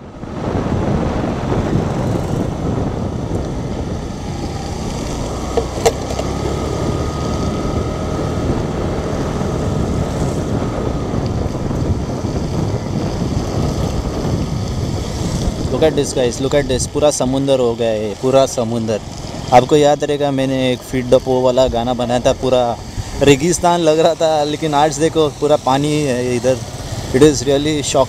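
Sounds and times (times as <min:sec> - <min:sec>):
wind and road noise of motorcycle: 0:00.0 - 0:28.0.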